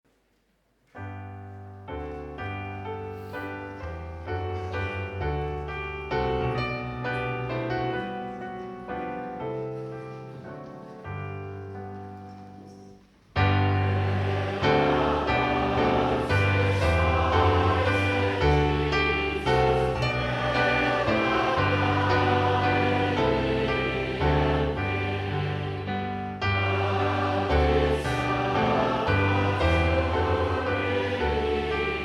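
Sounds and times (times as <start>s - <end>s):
piano playing hymn chords: 1.0s - 32.0s.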